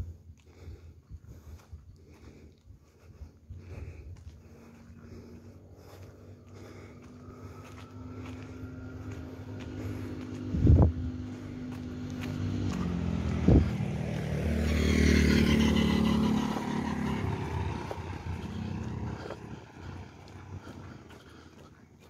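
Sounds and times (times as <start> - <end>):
vehicle engine and tyre noise: 0.0 - 22.0.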